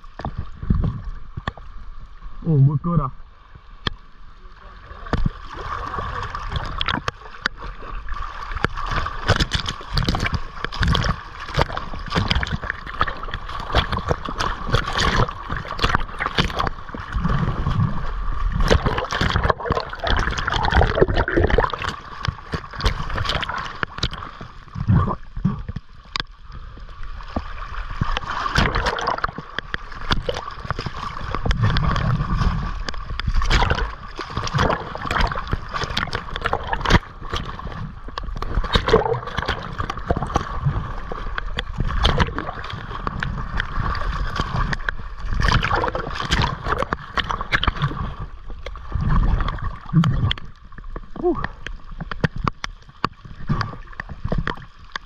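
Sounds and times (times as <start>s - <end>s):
sea water splashing and gurgling: 0.0s - 55.0s.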